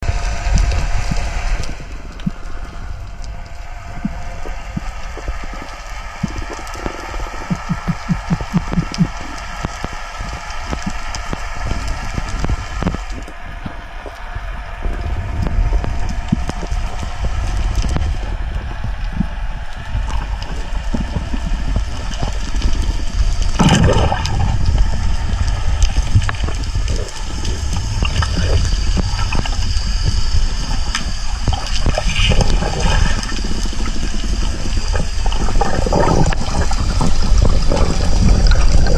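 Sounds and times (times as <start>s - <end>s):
heavy low rumble: 0.0s - 38.9s
sea water sloshing and splashing: 0.0s - 38.9s.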